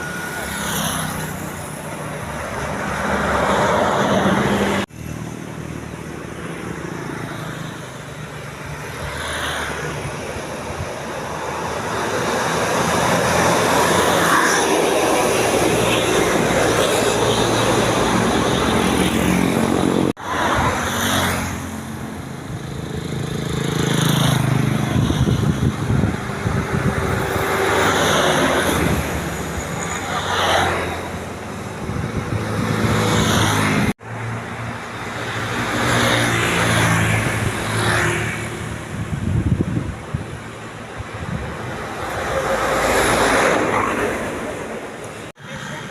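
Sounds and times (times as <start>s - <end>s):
buses passing on road: 0.0s - 45.9s.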